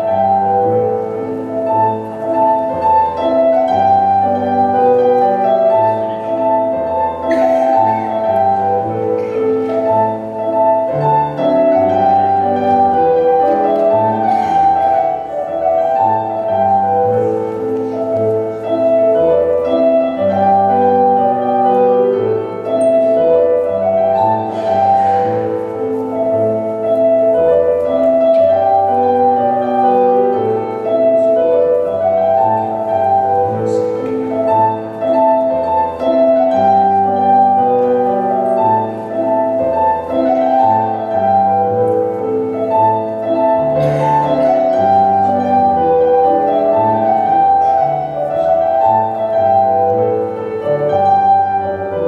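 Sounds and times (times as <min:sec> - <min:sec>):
country dance music: 0:00.0 - 0:52.0.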